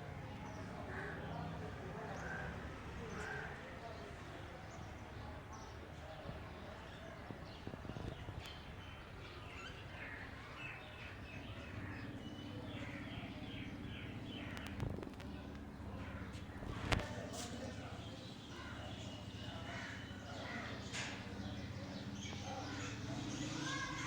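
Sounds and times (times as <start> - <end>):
caged birds chirping: 0.0 - 24.0.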